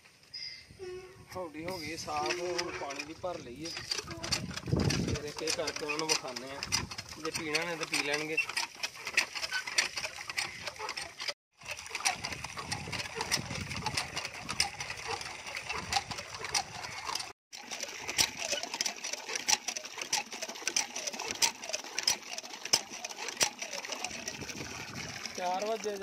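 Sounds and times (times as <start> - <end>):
hand pump handle clanking: 1.4 - 26.0
water splashing into trough: 1.8 - 26.0.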